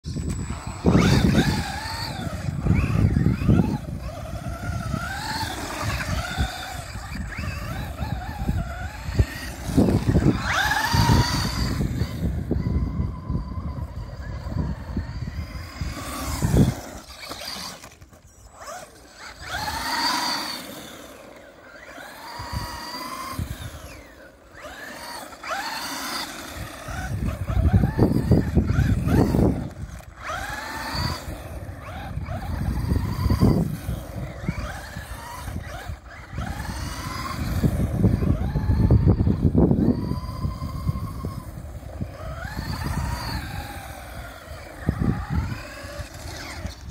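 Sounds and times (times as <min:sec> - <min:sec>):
electric motor whining: 0:00.0 - 0:46.9.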